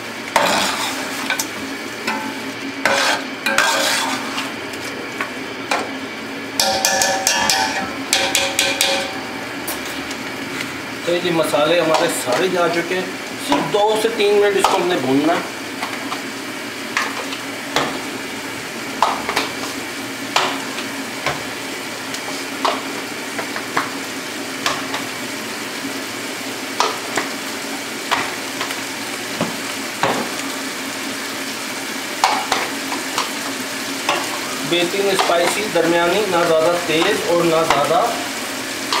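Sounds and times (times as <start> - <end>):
masala sizzling in a pot: 0.0 - 39.0.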